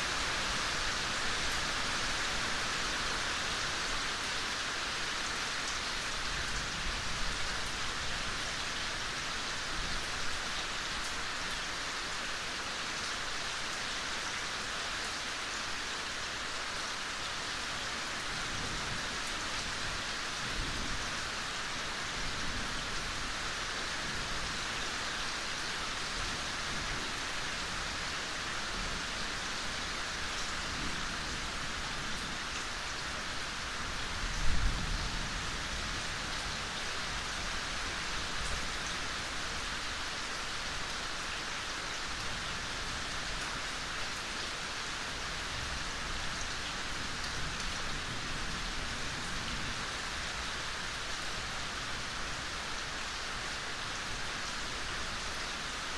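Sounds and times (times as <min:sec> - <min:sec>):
soft rain falling: 0:00.0 - 0:55.9.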